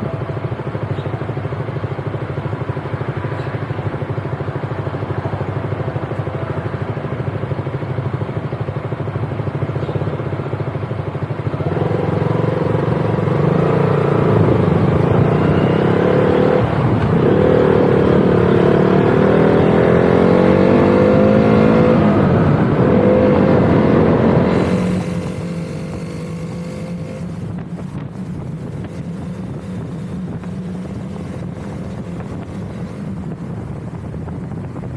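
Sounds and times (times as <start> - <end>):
motorcycle engine: 0.0 - 34.9.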